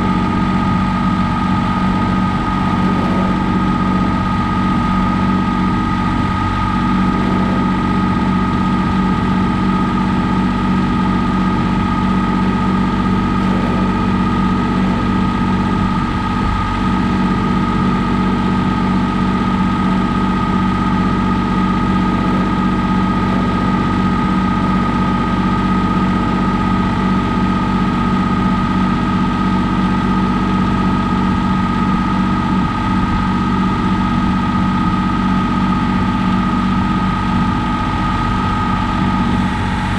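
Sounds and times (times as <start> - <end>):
high engine whine: 0.0 - 39.9
tractor diesel engine running: 0.0 - 39.9.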